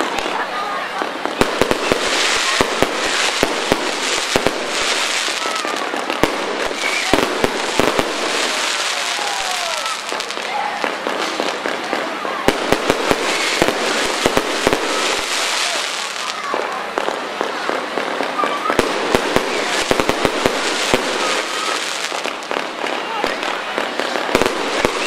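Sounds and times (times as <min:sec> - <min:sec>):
firework bangs: 0:00.0 - 0:25.0
firework crackle: 0:00.0 - 0:25.0.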